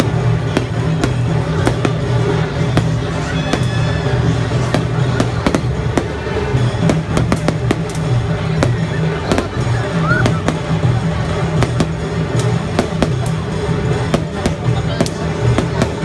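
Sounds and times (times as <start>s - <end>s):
crowd chatter: 0.0s - 16.0s
fireworks bangs: 0.0s - 16.0s
music with steady bass: 0.0s - 16.0s.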